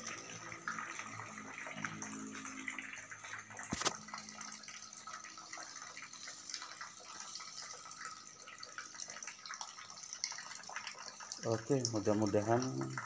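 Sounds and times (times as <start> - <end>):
water dripping and trickling: 0.0 - 13.0.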